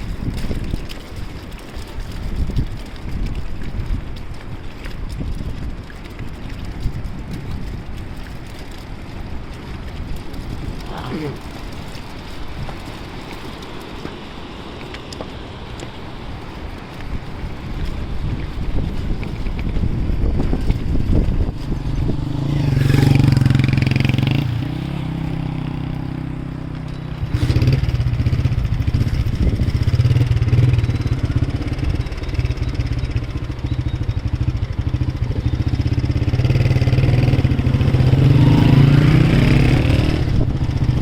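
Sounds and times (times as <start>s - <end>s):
vehicle engine running: 0.0s - 41.0s.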